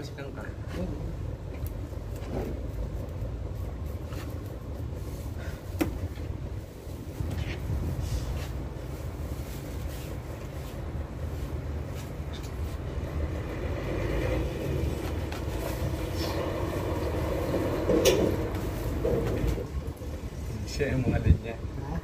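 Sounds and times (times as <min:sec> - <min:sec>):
heavy vehicles rumbling: 0:00.0 - 0:22.0.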